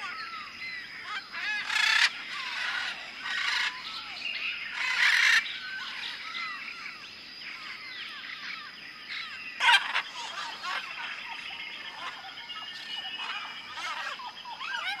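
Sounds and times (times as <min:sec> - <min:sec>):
birds chirping and whistling: 0:00.0 - 0:15.0
harsh bird calls: 0:00.0 - 0:15.0.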